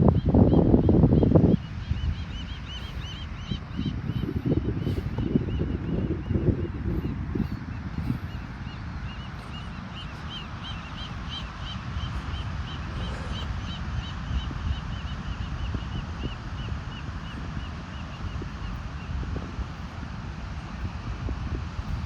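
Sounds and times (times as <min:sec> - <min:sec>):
wind: 0:00.0 - 0:22.0
small bird chirping: 0:00.2 - 0:18.8.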